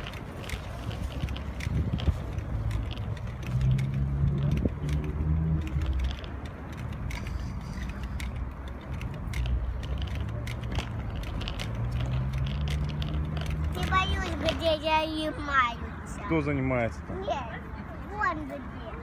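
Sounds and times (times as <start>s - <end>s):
scooter wheels rattling on asphalt: 0.0s - 19.0s.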